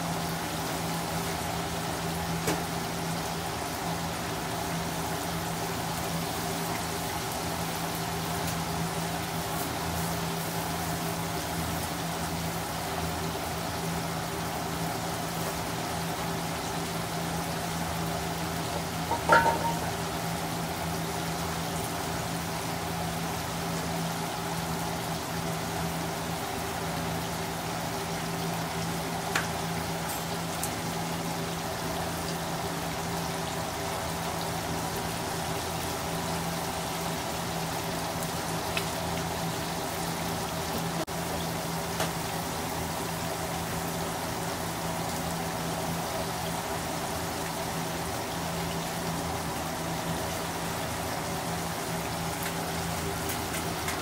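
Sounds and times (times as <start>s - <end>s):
fish deep-frying in hot oil: 0.0s - 54.0s.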